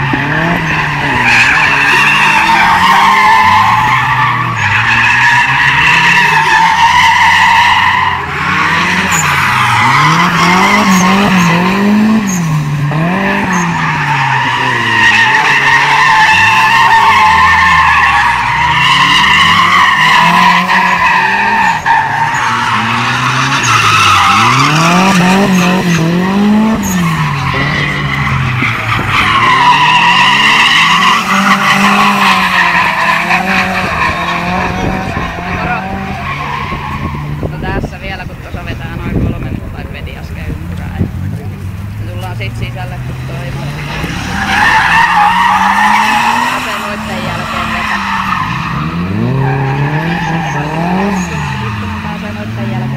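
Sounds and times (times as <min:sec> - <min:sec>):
engine revving: 0:00.0 - 0:06.8, 0:08.1 - 0:52.9
car tyres squealing: 0:00.0 - 0:52.9.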